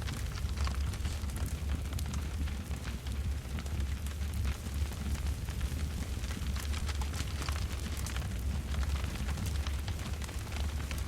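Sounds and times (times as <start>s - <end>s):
campfire crackling and popping: 0.0s - 11.0s
low fire rumble: 0.0s - 11.0s.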